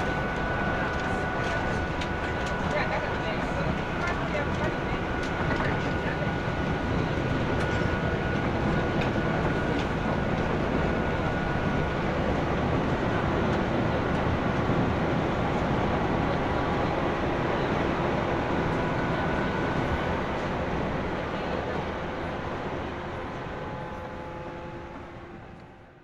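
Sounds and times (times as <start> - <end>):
train wheels rumbling: 0.0 - 26.0.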